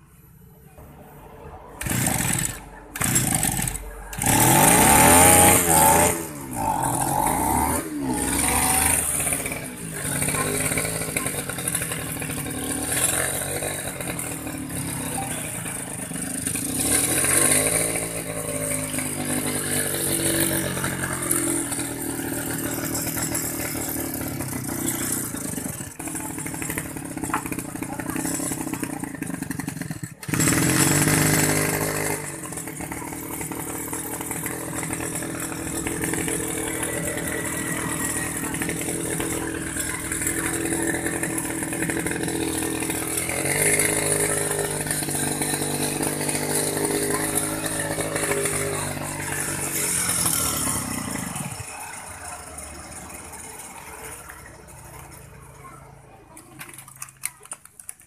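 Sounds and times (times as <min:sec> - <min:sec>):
small petrol engine revving: 0:00.0 - 0:58.0.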